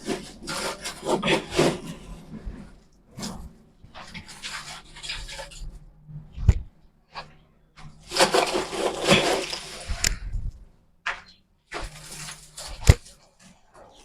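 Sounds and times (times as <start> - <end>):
wood shavings rustling and scraping: 0.0 - 5.7, 7.1 - 10.4, 11.1 - 14.0.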